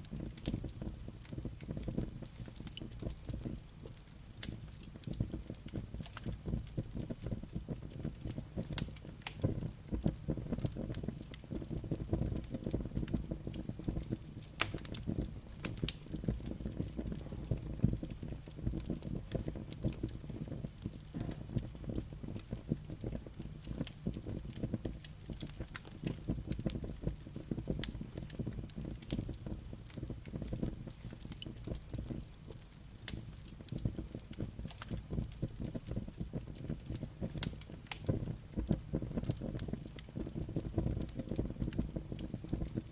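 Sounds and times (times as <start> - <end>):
burning logs crackling and popping: 0.0 - 42.9
flames rumbling: 0.0 - 42.9.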